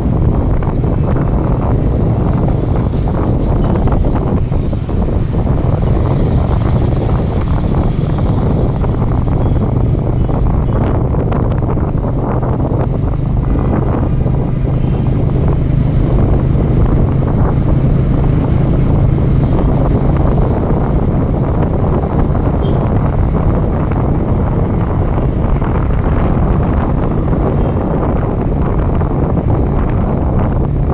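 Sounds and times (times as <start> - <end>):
wind rumbling on microphone: 0.0 - 30.9.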